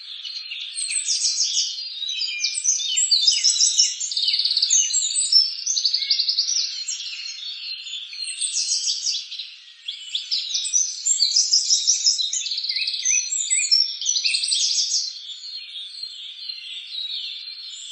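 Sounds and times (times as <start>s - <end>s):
songbirds chorus of trills: 0.0s - 17.9s.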